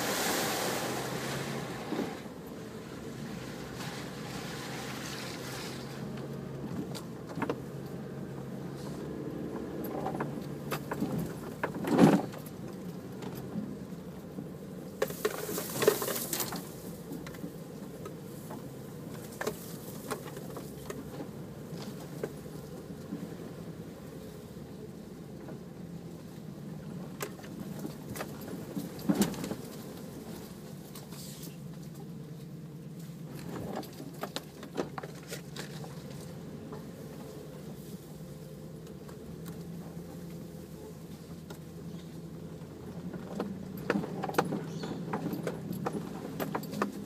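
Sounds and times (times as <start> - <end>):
vehicle engine running: 0.0 - 47.0
vehicle knocks and rattles: 3.7 - 23.4, 26.9 - 37.7, 38.8 - 47.0.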